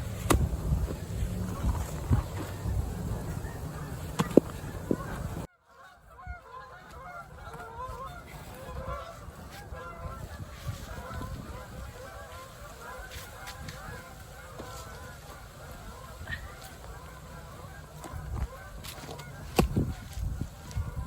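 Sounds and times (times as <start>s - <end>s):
geese honking: 0.0s - 21.0s
low wind rumble: 0.0s - 21.0s.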